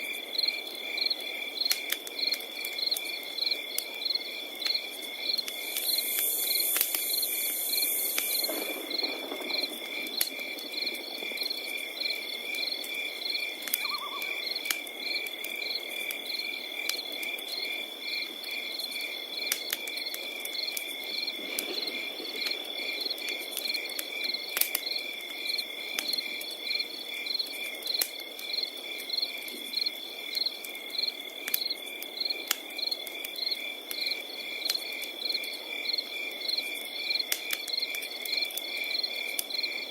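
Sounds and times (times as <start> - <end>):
cricket steady trill: 0.0 - 39.9
crickets chirping in pulses: 0.0 - 39.9
wood fire crackling and popping: 0.0 - 39.9.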